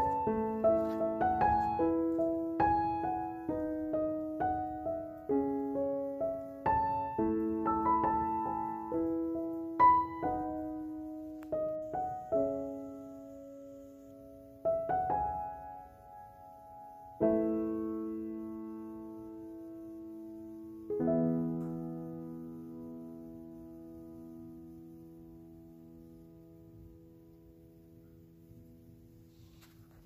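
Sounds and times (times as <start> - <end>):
piano music: 0.0 - 29.3.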